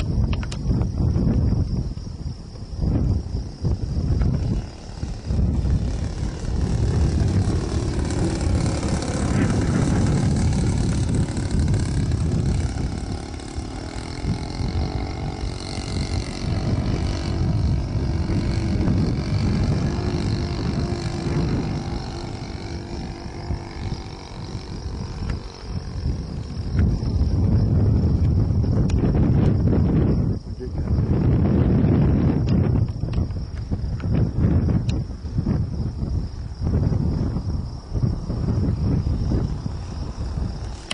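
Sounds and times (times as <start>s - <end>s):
model plane engine droning: 0.0s - 40.9s
wind rumble on microphone: 0.0s - 40.9s.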